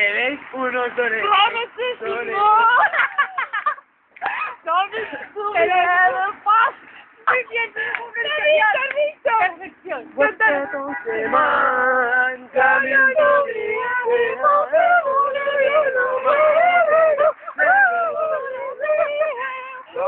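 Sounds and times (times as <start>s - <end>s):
voices singing loudly: 1.1s - 20.0s.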